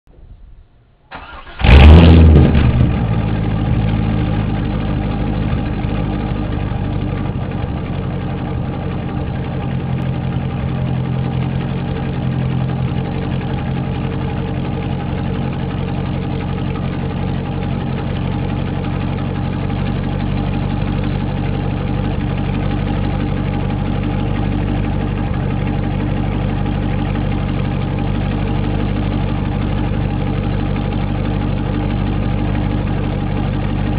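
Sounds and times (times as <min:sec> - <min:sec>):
car engine starting and idling: 0:00.1 - 0:33.9.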